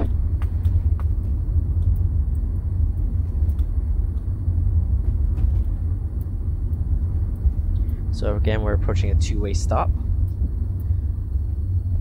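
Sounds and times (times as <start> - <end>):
car tyre and road noise: 0.0 - 12.0.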